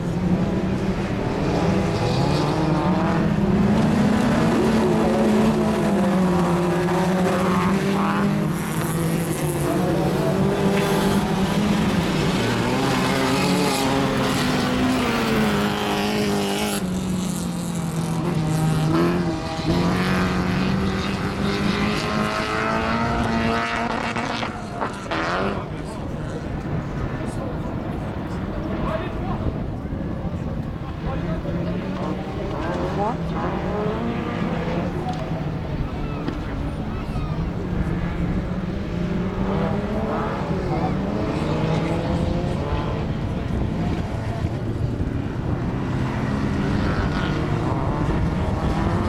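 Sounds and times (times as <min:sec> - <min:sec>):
racing car engines revving: 0:00.0 - 0:49.0.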